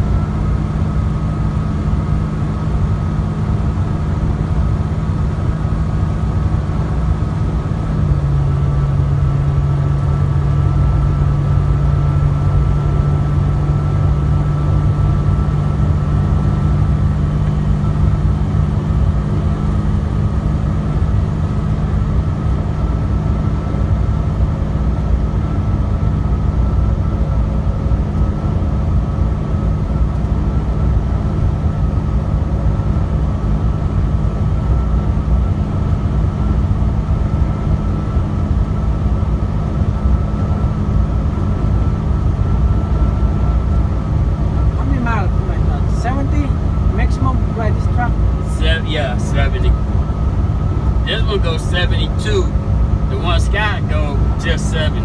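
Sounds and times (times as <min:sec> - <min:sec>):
diesel engine drone: 0:00.0 - 0:55.0
low road rumble: 0:00.0 - 0:55.0.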